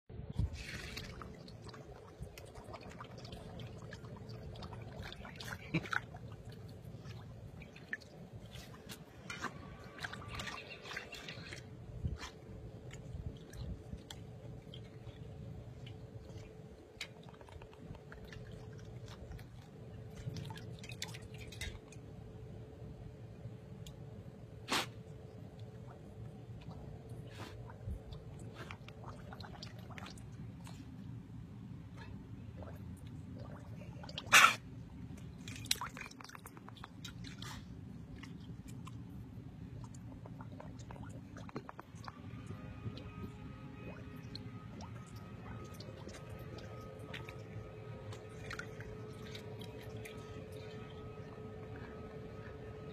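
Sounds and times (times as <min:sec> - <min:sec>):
dog blowing bubbles in water: 0:00.3 - 0:21.9, 0:25.7 - 0:31.0, 0:32.0 - 0:34.7, 0:35.4 - 0:52.9.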